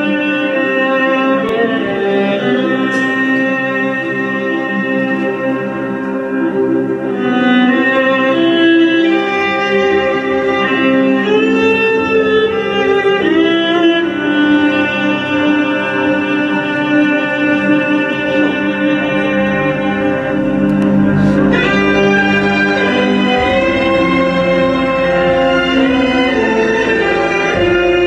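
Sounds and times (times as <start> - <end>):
sustained string chords: 0.0 - 28.0
violin-like lead melody: 0.0 - 28.0.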